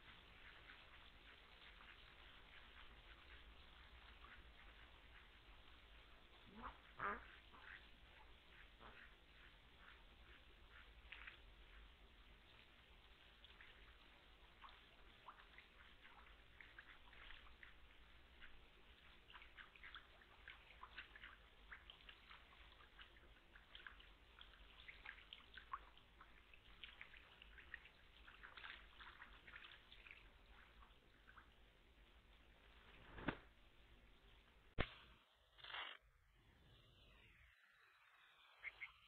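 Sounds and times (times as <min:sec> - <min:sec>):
ducks splashing in water: 0:00.0 - 0:32.6.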